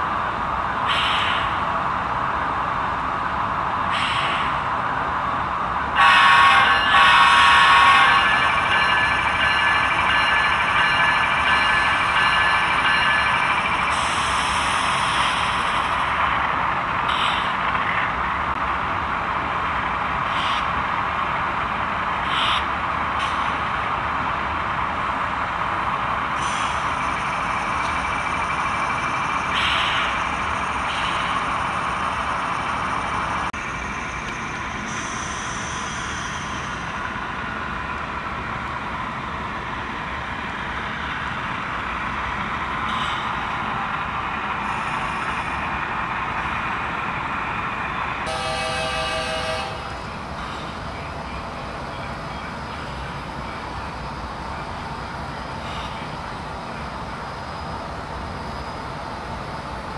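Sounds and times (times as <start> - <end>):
model train diesel engine drone: 0.0 - 59.9.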